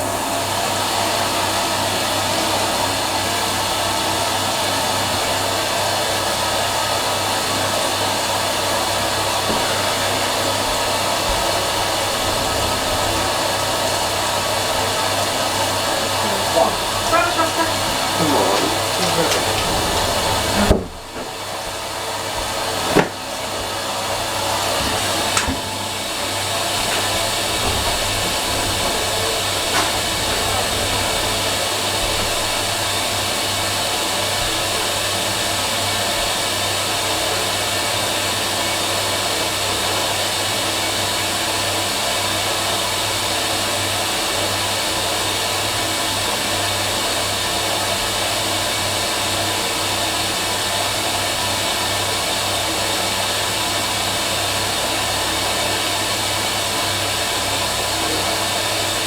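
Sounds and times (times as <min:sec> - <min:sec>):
washing machine whooshing: 0:00.0 - 0:59.0.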